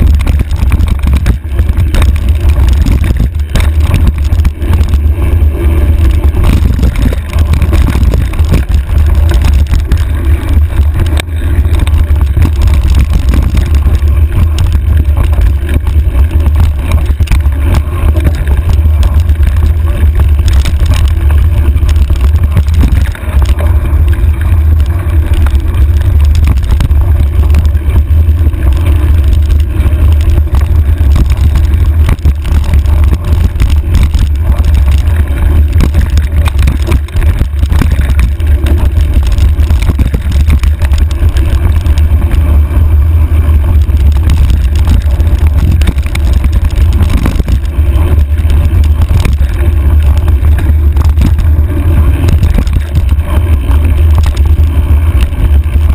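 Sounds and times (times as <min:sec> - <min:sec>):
bike rattling clicks and knocks: 0:00.0 - 0:55.9
wind buffeting microphone: 0:00.0 - 0:55.9.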